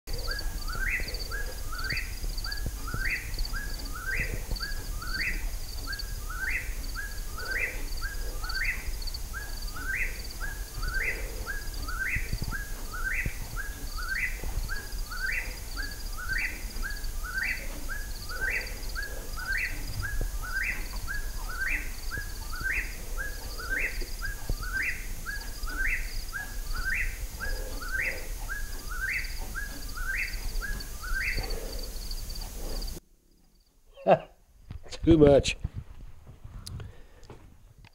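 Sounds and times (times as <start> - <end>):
bird call with rising whistle: 0.1 - 31.9.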